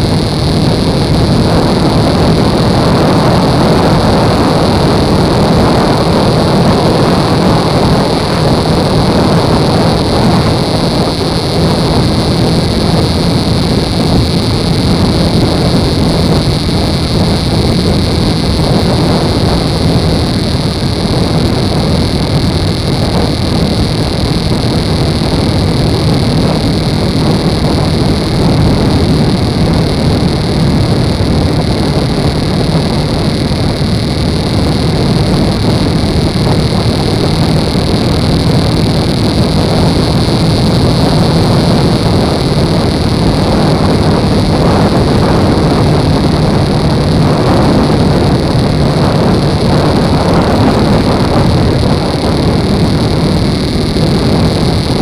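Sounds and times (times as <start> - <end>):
motorcycle engine drone: 0.0 - 55.0
wind rush over microphone: 0.0 - 55.0.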